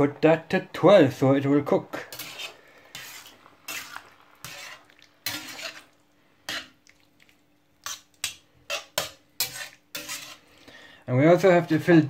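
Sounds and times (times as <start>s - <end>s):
utensil stirring in frying pan: 0.3s - 12.0s.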